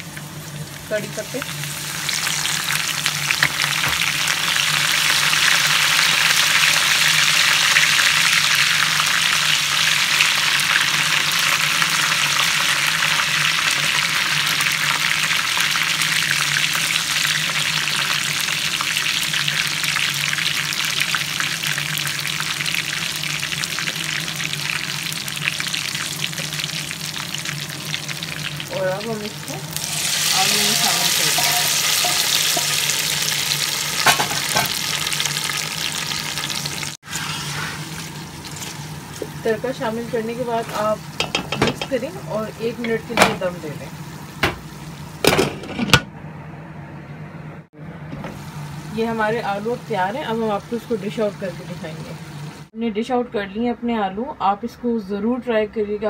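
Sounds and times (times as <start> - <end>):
spices sizzling in hot oil: 0.0 - 45.4, 48.2 - 52.8.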